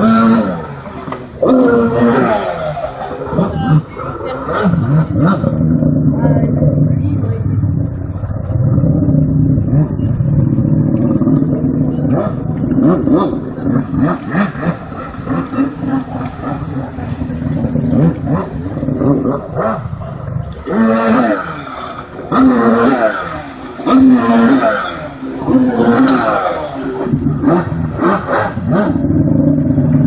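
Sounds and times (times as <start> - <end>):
jet ski engine running: 0.0 - 30.0.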